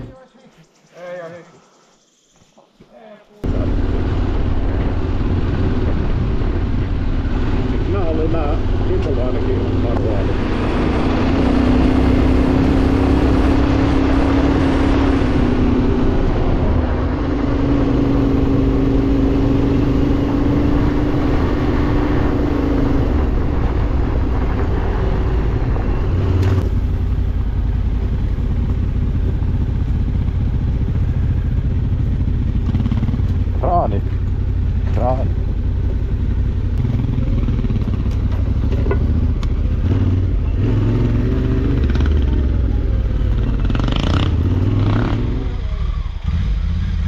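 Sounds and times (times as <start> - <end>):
motorcycle engine running: 3.4 - 47.0.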